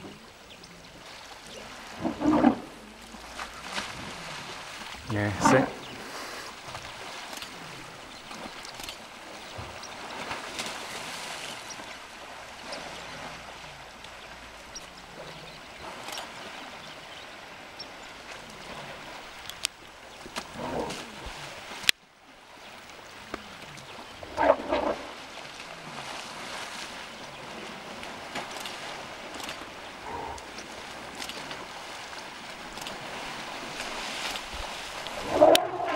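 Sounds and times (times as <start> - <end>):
water splashing and sloshing: 0.0 - 35.9.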